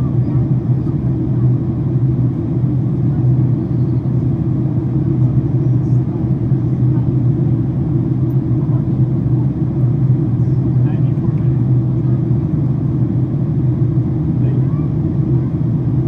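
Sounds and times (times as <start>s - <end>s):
constant low hum: 0.0s - 16.0s
jet engines rumbling: 0.0s - 16.0s.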